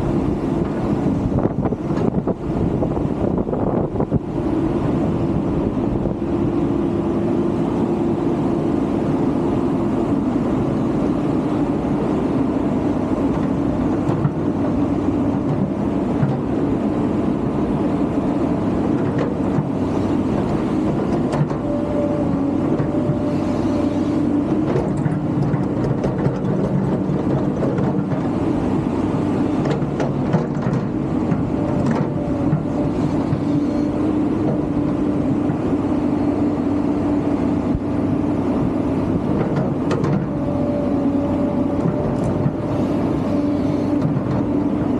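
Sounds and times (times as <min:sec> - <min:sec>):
higher engine tone: 0:00.0 - 0:26.0, 0:31.1 - 0:44.9
excavator diesel engine running: 0:00.0 - 0:44.9.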